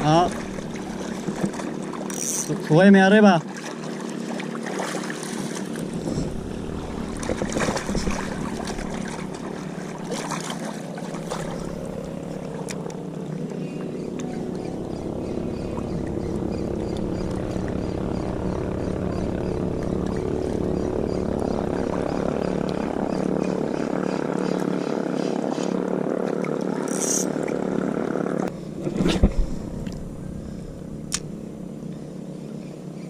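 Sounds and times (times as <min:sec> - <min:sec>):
small boat engine running: 0:00.0 - 0:33.0.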